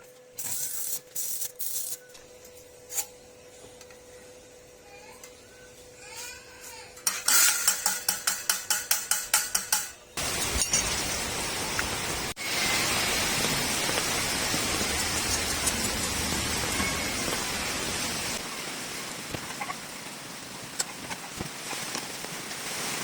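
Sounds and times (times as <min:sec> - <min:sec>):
arc welding crackling hiss: 0:00.0 - 0:23.0.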